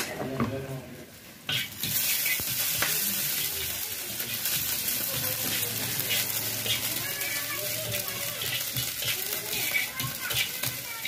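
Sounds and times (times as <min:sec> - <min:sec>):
meat sizzling in hot oil: 0:01.1 - 0:11.0.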